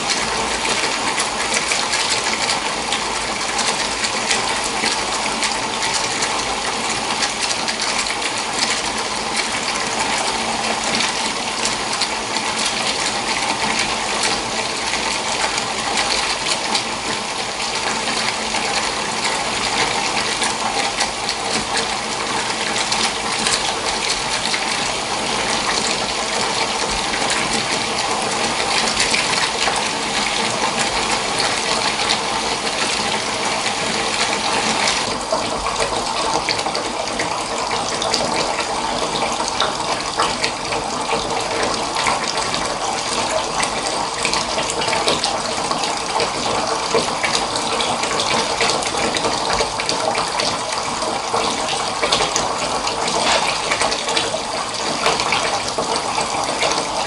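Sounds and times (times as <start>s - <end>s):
water gushing from a tap: 0.0s - 57.0s.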